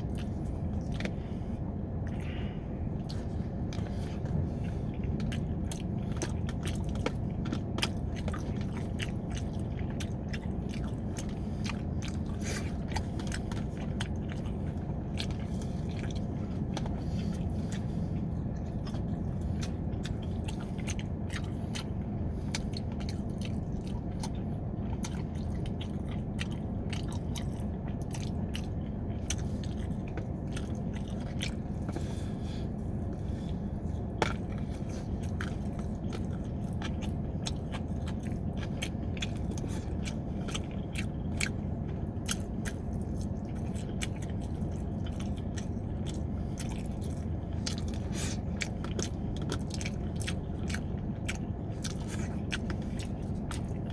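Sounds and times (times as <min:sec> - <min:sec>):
person chewing and biting: 0:00.0 - 0:53.9
steady low hum: 0:00.0 - 0:53.9.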